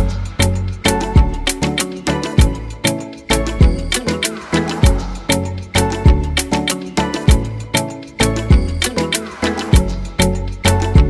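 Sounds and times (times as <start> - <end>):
upbeat music with driving beat: 0.0 - 11.0.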